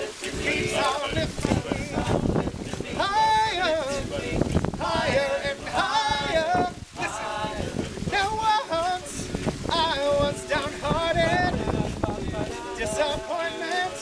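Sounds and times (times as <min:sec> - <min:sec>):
male a cappella group singing: 0:00.0 - 0:14.0.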